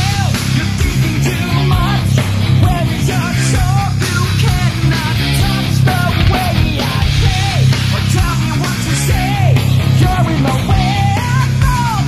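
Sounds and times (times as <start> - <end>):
band music with heavy bass: 0.0 - 12.0.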